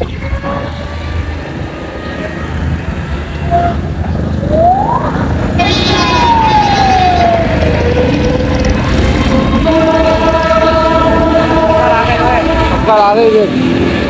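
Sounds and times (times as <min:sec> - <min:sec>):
road and engine noise: 0:00.0 - 0:14.0
siren-like wail: 0:00.0 - 0:14.0.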